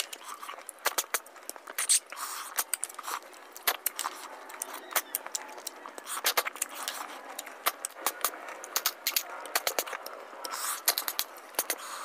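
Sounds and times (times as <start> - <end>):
wet eating mouth sounds: 0.0 - 12.0.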